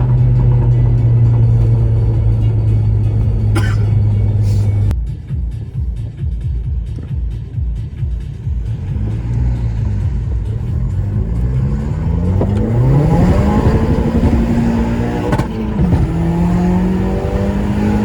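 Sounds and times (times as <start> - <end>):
car engine accelerating: 0.0 - 4.9, 6.8 - 18.0.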